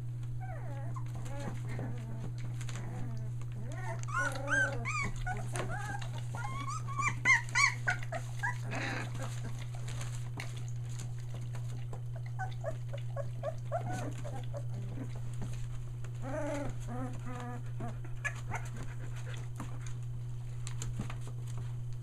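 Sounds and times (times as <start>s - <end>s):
puppies crying and whimpering: 0.3s - 20.0s.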